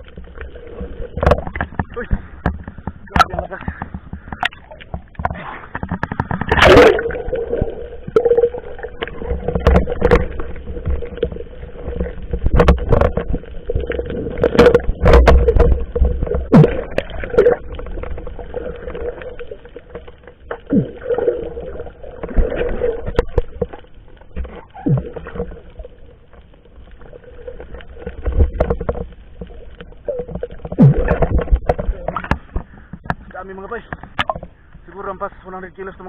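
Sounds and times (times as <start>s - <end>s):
water splashes: 0.0s - 36.0s.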